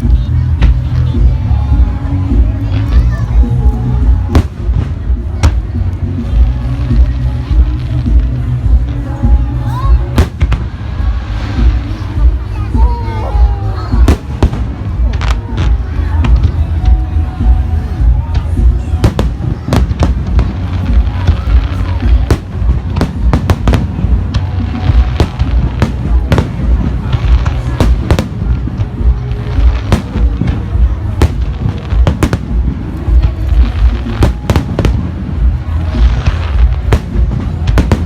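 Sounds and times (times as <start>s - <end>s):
fireworks bangs and cracks: 0.0s - 38.0s.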